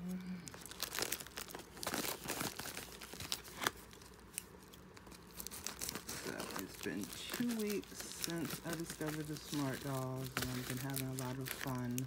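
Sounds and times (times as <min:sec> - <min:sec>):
packaging crinkling and tearing: 0:00.4 - 0:12.0.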